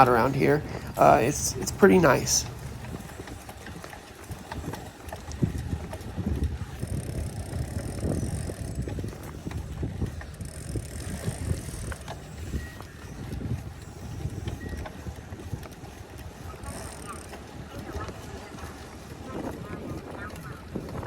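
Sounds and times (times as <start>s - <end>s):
bike tyre rumble: 0.0s - 21.0s
wind buffeting microphone: 0.0s - 21.0s.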